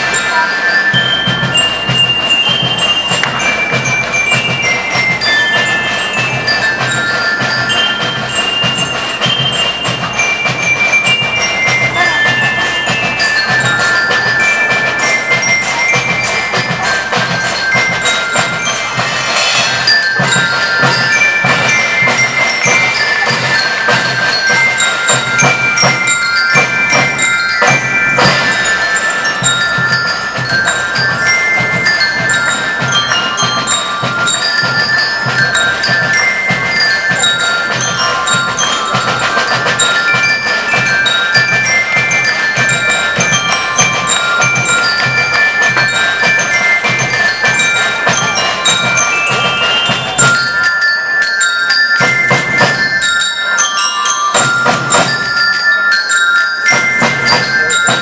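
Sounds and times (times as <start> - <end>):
drum-kit beat: 0.0 - 50.6
snare drums: 0.0 - 50.7, 56.7 - 58.0
bell lyres melody: 0.0 - 58.0.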